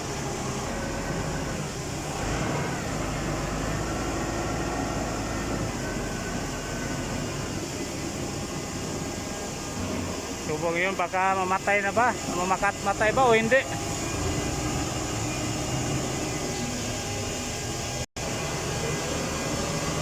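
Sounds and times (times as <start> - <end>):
forklift diesel engine running: 0.0 - 18.1.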